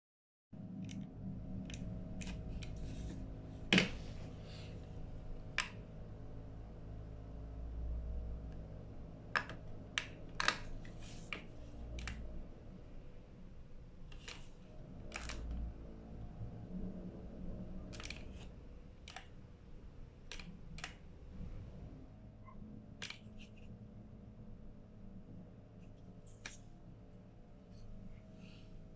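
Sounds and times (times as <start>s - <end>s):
steady low hum: 0.6s - 28.9s.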